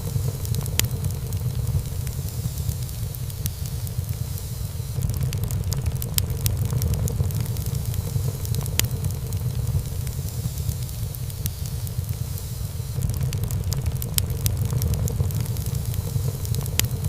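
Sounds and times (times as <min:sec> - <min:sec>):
burning wood crackling and popping: 0:00.0 - 0:17.0
fire flames rumbling: 0:00.0 - 0:17.0.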